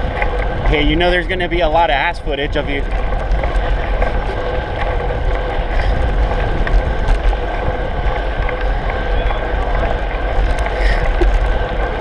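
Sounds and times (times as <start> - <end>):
tyres rumbling on asphalt: 0.0 - 12.0
wind noise on microphone: 0.0 - 12.0.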